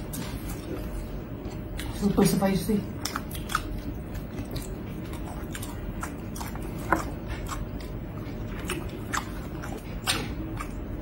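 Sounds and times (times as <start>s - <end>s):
people chewing and mouth smacks: 0.0s - 11.0s
steady low hum: 0.0s - 11.0s.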